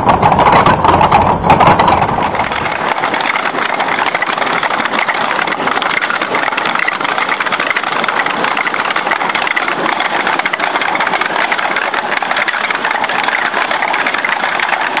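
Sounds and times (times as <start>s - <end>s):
machine fast mechanical rattle: 0.0s - 15.0s.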